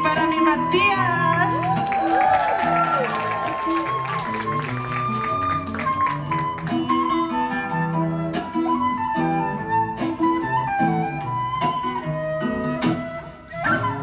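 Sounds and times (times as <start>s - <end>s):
bass: 0.0s - 14.0s
flute melody: 0.0s - 14.0s
guitar: 0.0s - 14.0s.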